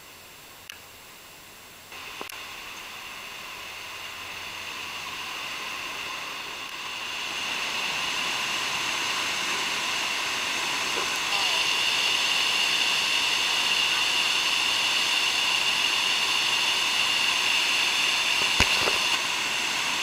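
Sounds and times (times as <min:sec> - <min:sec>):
waterfall rushing: 0:01.9 - 0:20.0.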